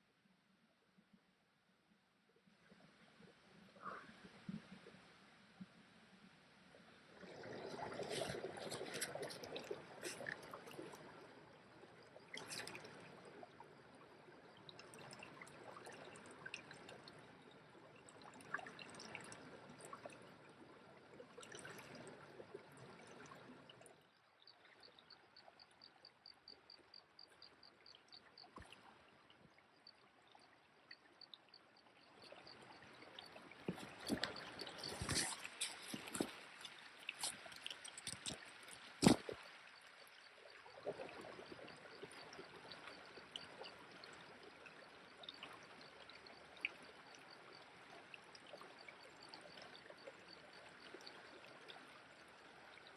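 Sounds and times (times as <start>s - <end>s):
small stream trickling: 2.4s - 52.9s
water splashes and drips: 7.1s - 25.8s, 26.7s - 52.9s.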